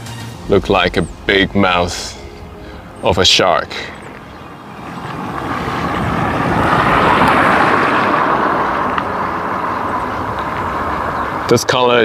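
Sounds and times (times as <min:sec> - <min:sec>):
passing vehicle rushing: 0:00.3 - 0:12.0.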